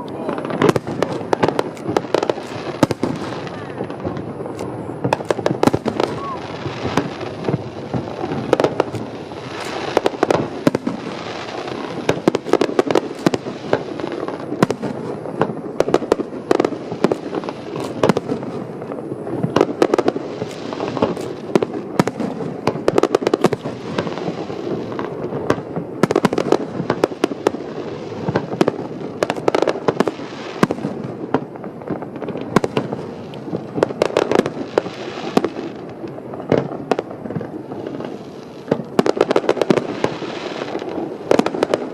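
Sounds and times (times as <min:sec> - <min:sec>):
firework shells bursting: 0:00.0 - 0:41.9
fireworks crackling: 0:00.0 - 0:41.9.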